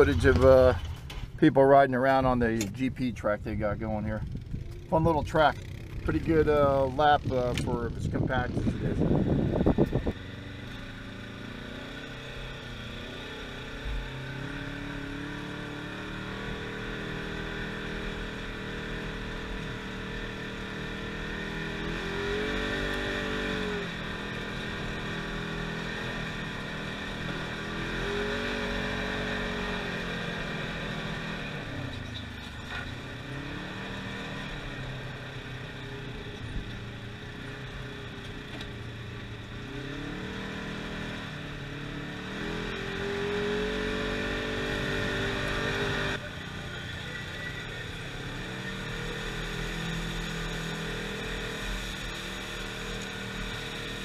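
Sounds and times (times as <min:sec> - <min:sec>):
vehicle engine revving: 0:04.1 - 0:54.0.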